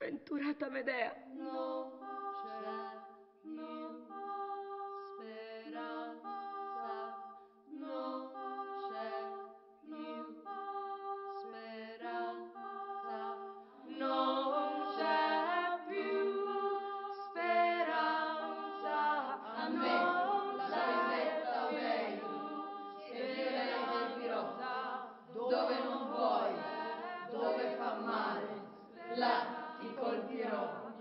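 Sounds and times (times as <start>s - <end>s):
women singing a cappella: 1.1s - 31.0s.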